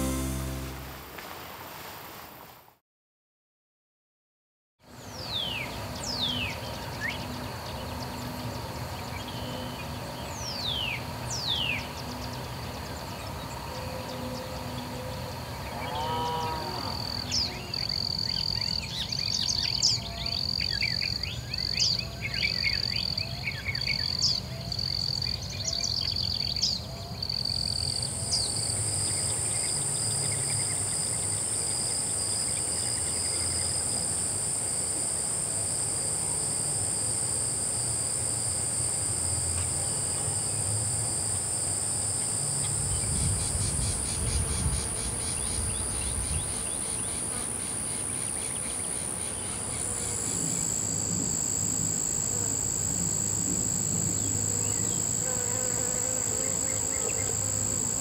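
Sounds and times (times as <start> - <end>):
high steady insect buzz: 4.9 - 58.0
insects trilling: 5.0 - 58.0.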